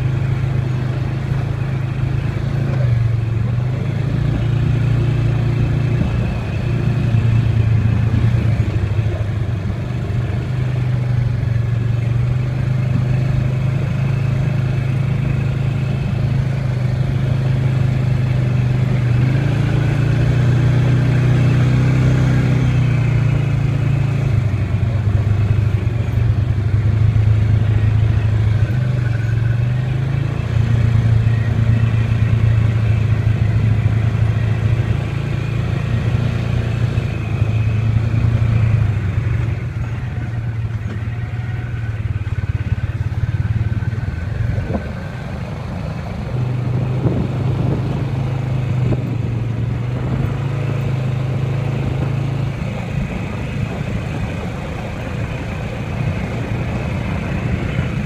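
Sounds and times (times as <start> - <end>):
off-road vehicle engine droning: 0.0 - 58.0
vehicle rattling over bumps: 0.0 - 58.0.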